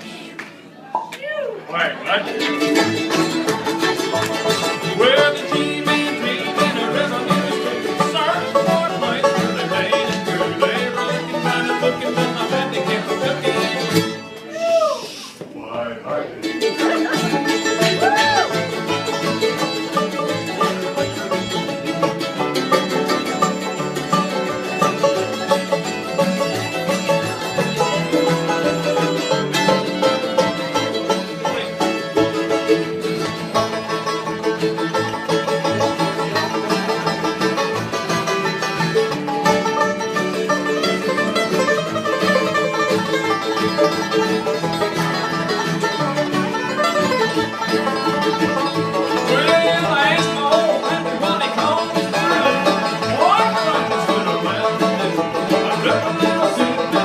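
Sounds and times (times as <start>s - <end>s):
country band playing: 0.0s - 57.0s.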